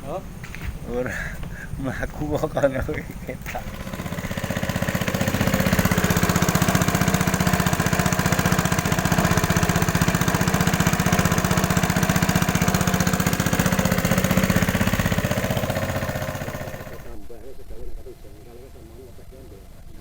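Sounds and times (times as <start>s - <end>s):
small engine chugging: 0.0s - 17.2s.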